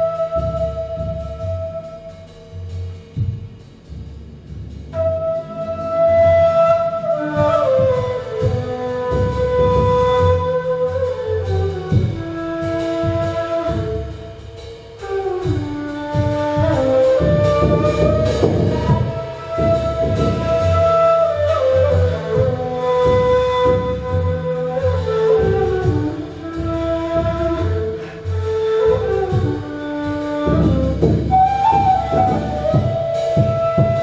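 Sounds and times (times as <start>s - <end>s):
cane flute melody: 0.0s - 3.0s, 4.9s - 34.0s
frame drum strokes: 0.0s - 34.0s.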